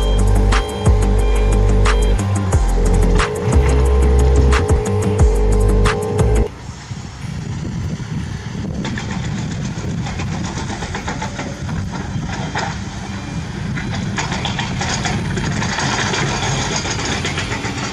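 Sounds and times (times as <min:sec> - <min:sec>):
motor running with rattle: 0:00.0 - 0:06.5, 0:07.4 - 0:17.9.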